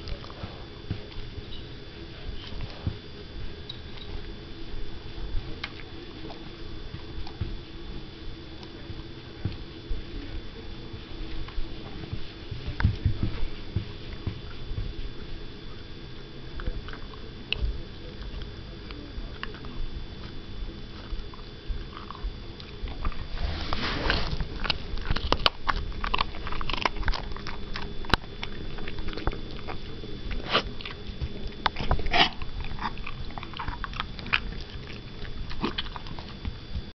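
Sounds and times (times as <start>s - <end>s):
dog crunching dry kibble: 0.0s - 14.9s, 16.5s - 36.9s.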